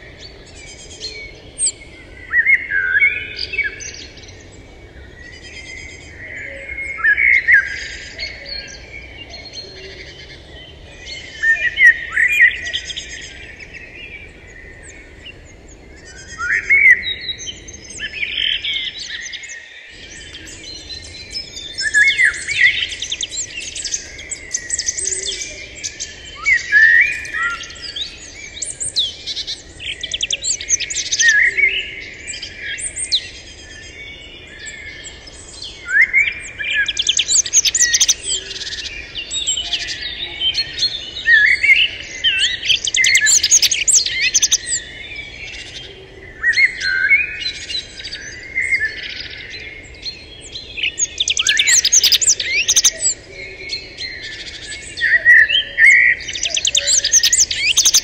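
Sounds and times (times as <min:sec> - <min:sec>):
wild birds chirping and trilling: 0:00.0 - 0:58.0.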